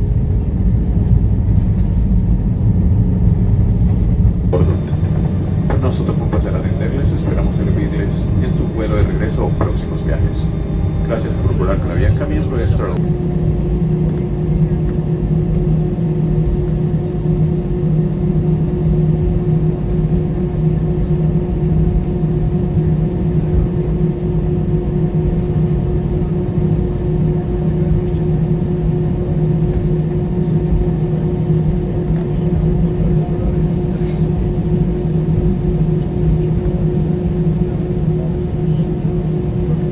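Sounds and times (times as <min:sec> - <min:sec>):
aircraft cabin hum: 0:00.0 - 0:39.9
droning engine tones: 0:00.0 - 0:39.9.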